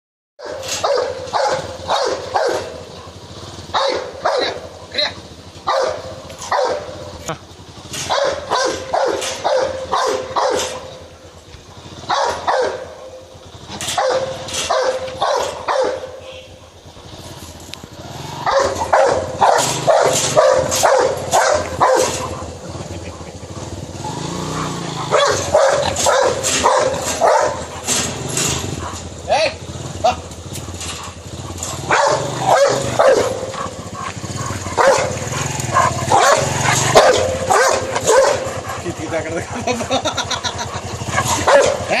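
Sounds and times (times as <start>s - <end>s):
dog barking aggressively: 0.4s - 17.2s, 17.9s - 42.0s.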